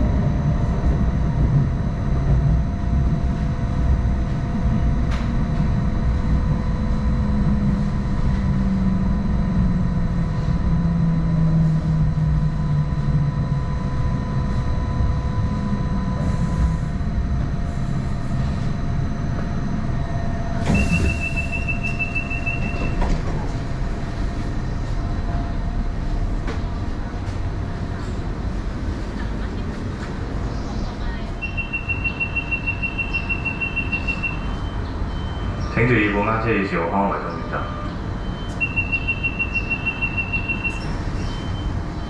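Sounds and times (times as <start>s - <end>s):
light rail train rumbling: 0.0s - 42.0s.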